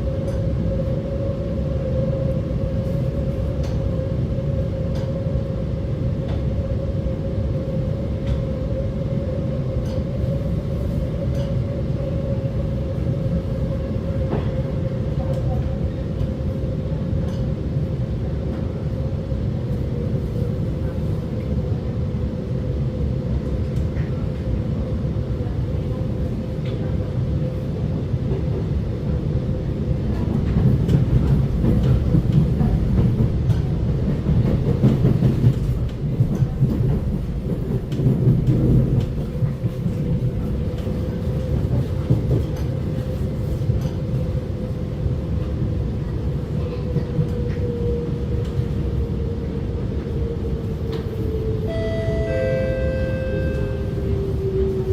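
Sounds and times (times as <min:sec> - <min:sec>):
metro train running: 0:00.0 - 0:54.9.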